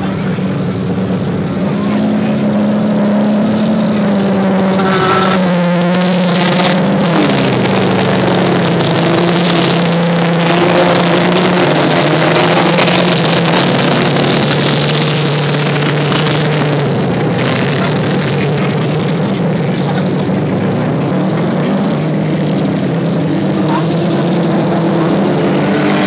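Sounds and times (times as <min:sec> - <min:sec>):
racing car engines droning: 0:00.0 - 0:26.0.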